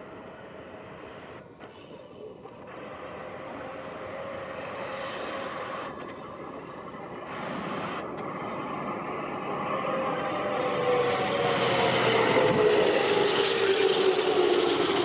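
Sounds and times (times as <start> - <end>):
electric train wheels and motors rumbling: 0.0 - 15.0
faint train whine: 0.0 - 15.0.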